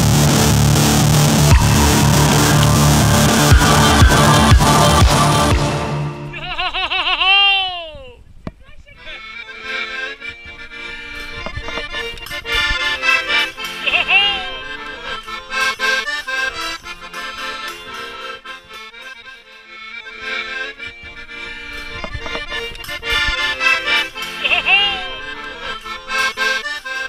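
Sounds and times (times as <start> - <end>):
accordion music: 0.0 - 7.0, 8.9 - 27.0.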